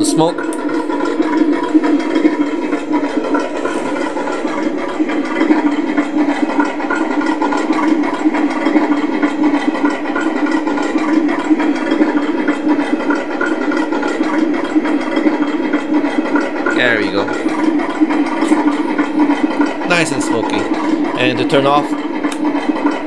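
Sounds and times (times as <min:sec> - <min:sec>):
simulated tank engine idling: 0:00.0 - 0:23.0.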